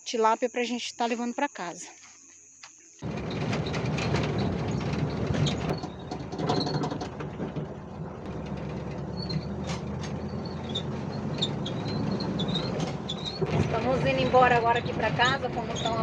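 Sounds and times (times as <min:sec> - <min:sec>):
van body rattling and creaking: 0:03.0 - 0:16.0
van engine hum: 0:03.0 - 0:16.0.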